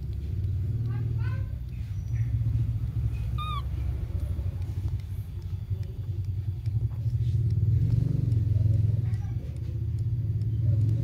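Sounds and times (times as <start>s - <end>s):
pulsing motor rumble: 0.0s - 11.0s.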